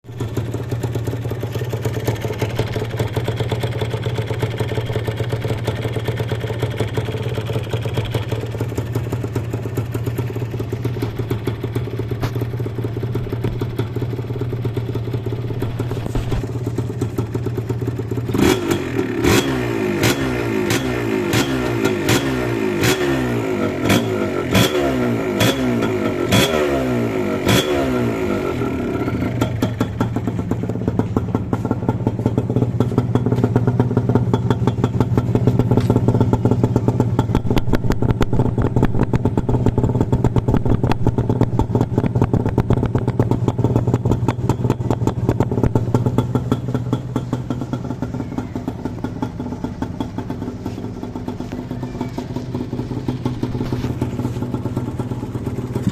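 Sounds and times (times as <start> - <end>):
two-stroke motorcycle engine revving: 0.2 - 55.9.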